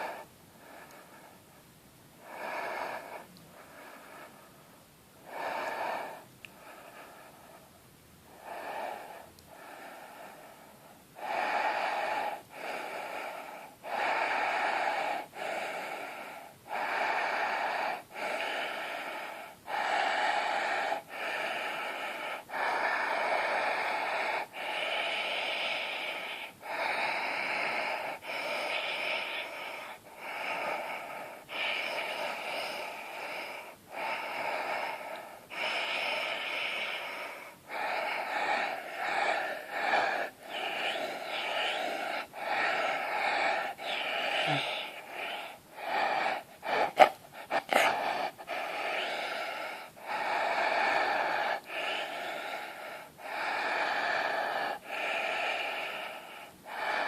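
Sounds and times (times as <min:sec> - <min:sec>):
person breathing deeply: 0:00.0 - 0:57.0.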